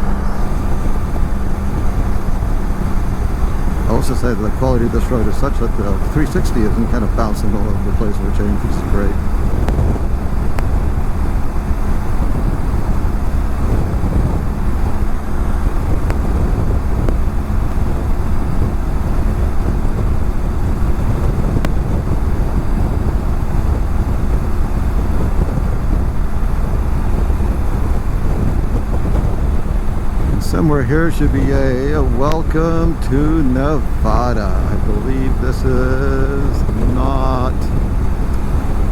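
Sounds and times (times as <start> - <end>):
motorcycle engine cruising: 0.0 - 38.9
wind noise on microphone: 0.0 - 38.9.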